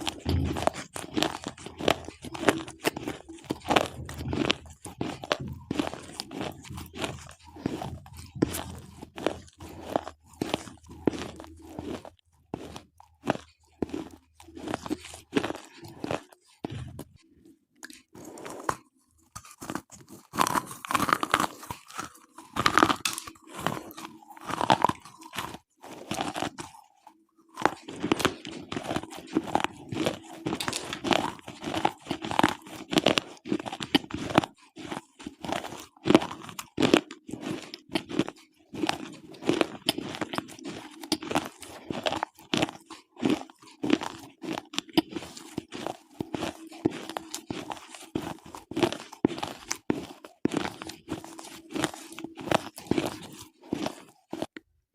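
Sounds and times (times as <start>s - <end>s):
slate pencils crunching: 0.0s - 54.6s.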